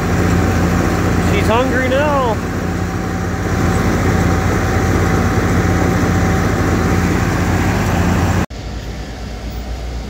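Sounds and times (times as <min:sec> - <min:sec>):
silage bagger machinery running: 0:00.0 - 0:10.0
steady machine hum: 0:00.0 - 0:10.0
tractor engine: 0:00.0 - 0:10.0.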